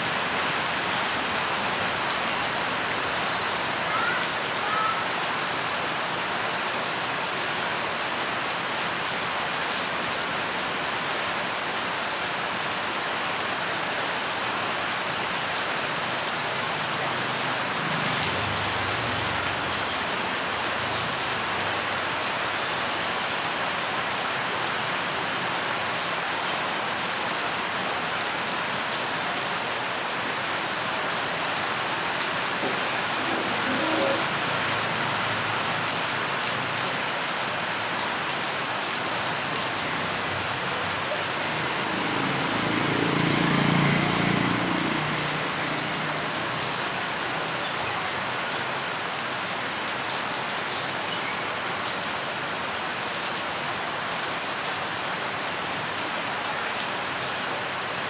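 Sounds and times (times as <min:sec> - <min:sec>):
heavy rain on water: 0:00.0 - 0:58.0.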